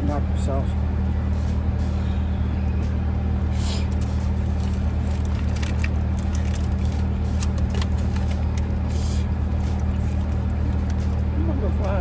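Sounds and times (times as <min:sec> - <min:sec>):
car running inside cabin: 0:00.0 - 0:12.0.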